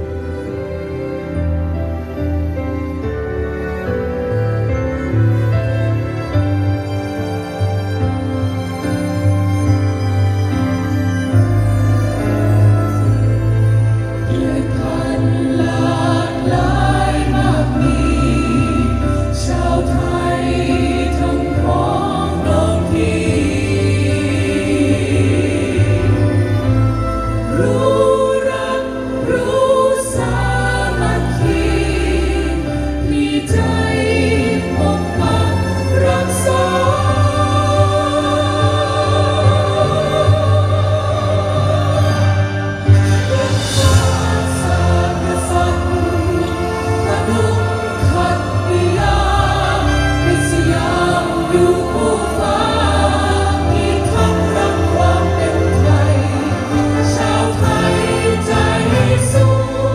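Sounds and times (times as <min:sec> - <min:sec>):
choir singing sustained chords: 0:00.0 - 0:59.9
low bass: 0:11.4 - 0:59.9.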